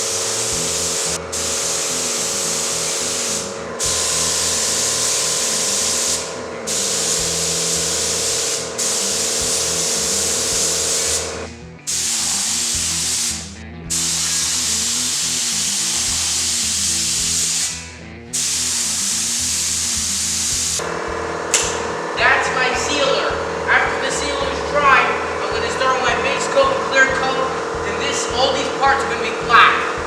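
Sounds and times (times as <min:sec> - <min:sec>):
paint spray gun hissing: 0:00.0 - 0:30.0.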